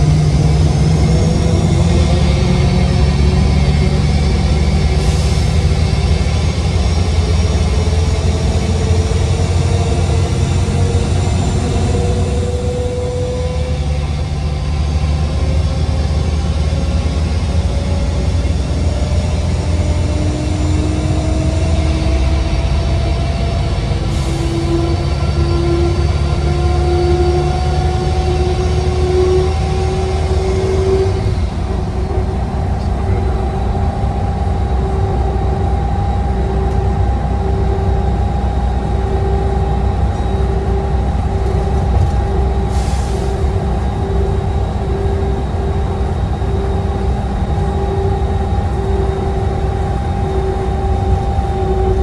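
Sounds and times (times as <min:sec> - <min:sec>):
bus diesel engine pulling under load: 0:00.0 - 0:52.0.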